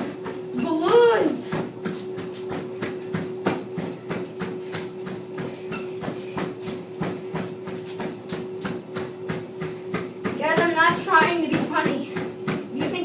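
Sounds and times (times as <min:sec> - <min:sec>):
footfalls thudding on treadmill: 0:00.0 - 0:13.0
treadmill motor hum: 0:00.0 - 0:13.0.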